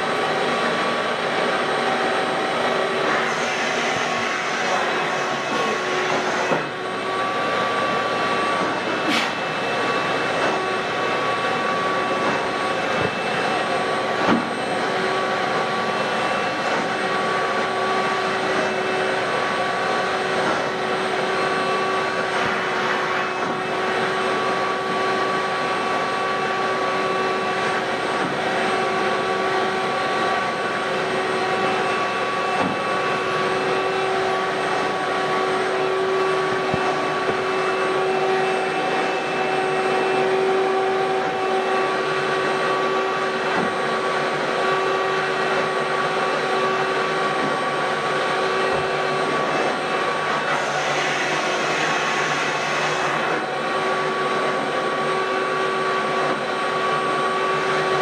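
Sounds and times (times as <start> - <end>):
shop vacuum motor whine: 0.0 - 58.0.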